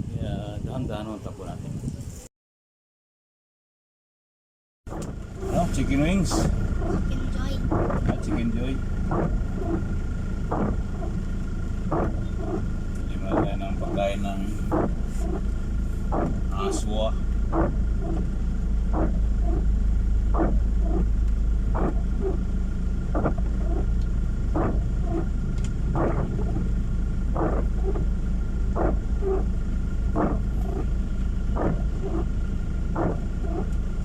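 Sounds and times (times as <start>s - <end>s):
car engine and road rumble: 0.0s - 2.3s, 4.9s - 34.0s
windshield wipers sweeping: 4.9s - 34.0s.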